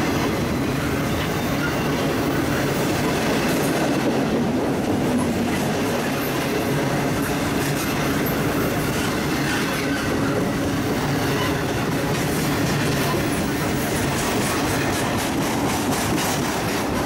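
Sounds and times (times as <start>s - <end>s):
steel wheels on rail: 0.0s - 17.0s.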